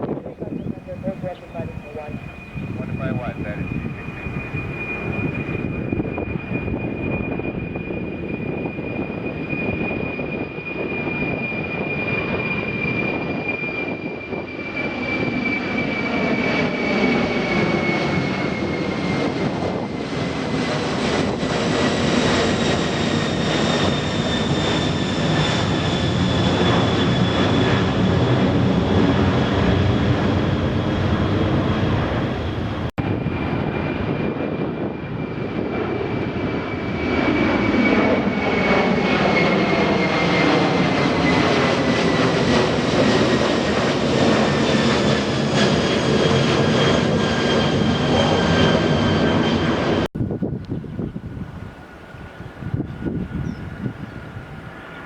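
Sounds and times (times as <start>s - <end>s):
jet engines roaring at takeoff: 0.0s - 55.0s.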